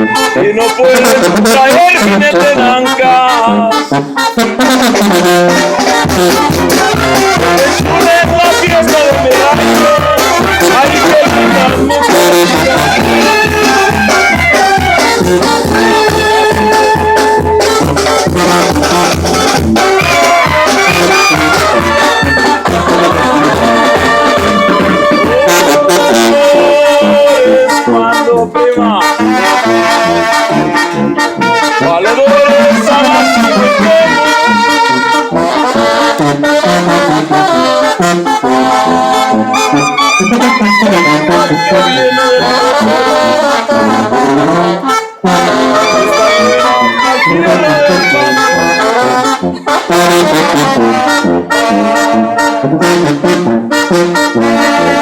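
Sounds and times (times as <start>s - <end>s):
brass band playing live: 0.0s - 55.0s
trombones and trumpets melody: 0.0s - 55.0s.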